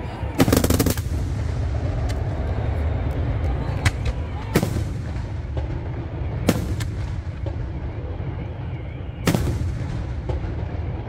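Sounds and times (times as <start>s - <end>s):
low rumble: 0.0s - 11.0s
fireworks bangs: 0.1s - 11.0s
fireworks popping: 0.2s - 11.0s.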